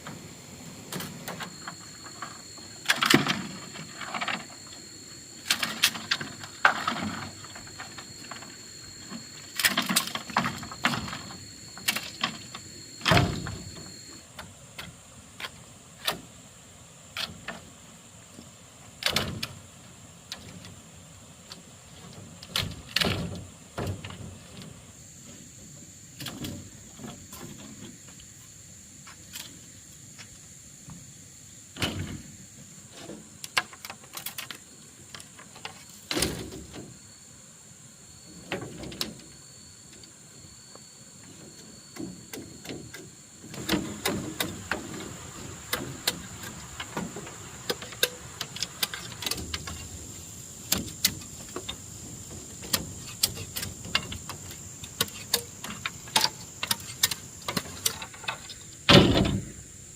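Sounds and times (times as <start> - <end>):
faint high-pitched whine: 0.0 - 59.9.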